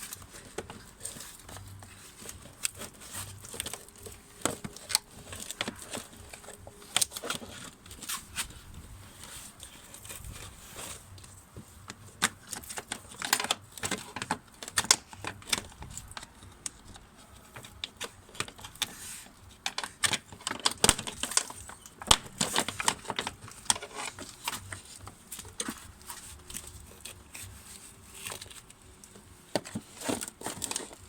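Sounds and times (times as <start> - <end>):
plastic parts clicking and clattering: 0.0 - 8.5, 9.2 - 31.0.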